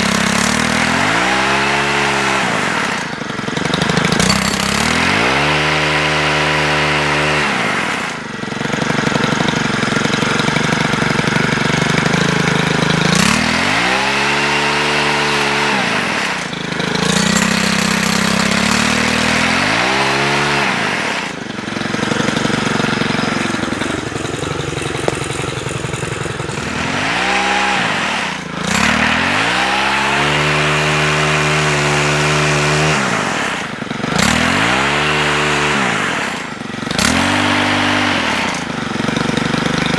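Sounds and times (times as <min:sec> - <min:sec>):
pole saw engine revving: 0:00.0 - 0:39.9.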